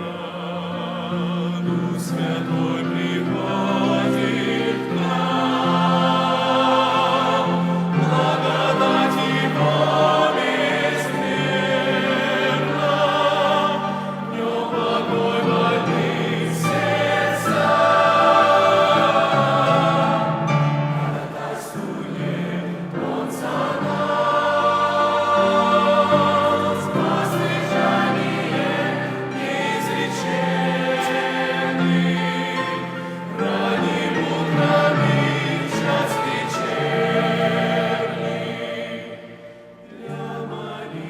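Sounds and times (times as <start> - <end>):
choir singing a hymn: 0.0 - 41.0.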